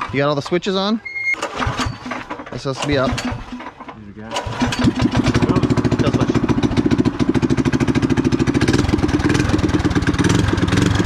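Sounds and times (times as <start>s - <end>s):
minibike engine running: 1.1s - 11.0s.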